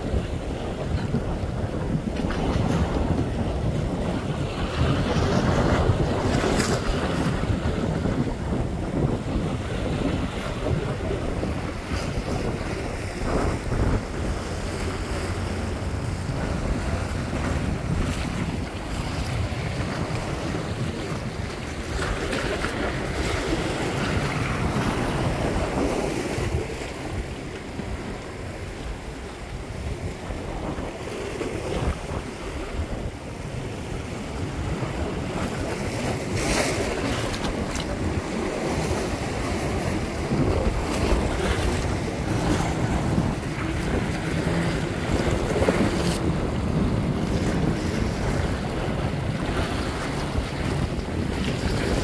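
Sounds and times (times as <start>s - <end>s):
waves breaking over rocks: 0.0s - 52.0s
wind buffeting microphone: 0.0s - 52.0s.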